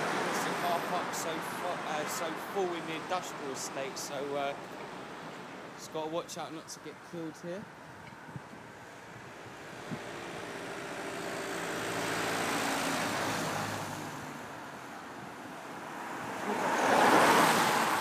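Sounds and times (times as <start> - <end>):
vehicles passing: 0.0 - 18.0.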